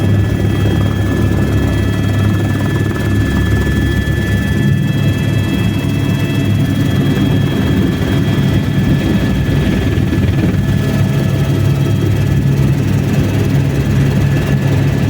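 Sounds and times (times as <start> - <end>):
helicopter rotor and engine noise: 0.0 - 15.0.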